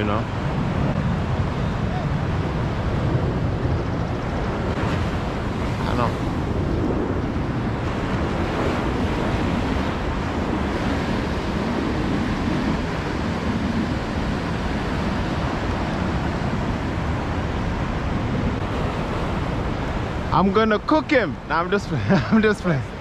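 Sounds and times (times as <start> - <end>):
surf breaking on shore: 0.0 - 23.0
wind buffeting microphone: 0.0 - 23.0.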